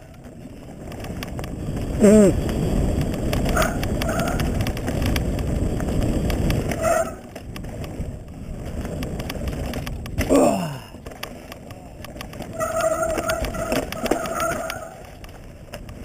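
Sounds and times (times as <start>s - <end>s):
bike rattling: 0.0s - 16.0s
bike tyres crunching over stones: 0.0s - 16.0s.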